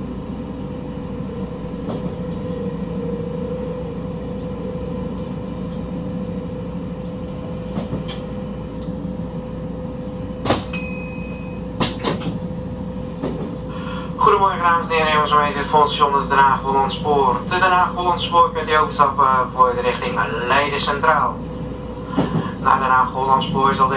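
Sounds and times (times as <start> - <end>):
train rumble with whine: 0.0 - 23.9.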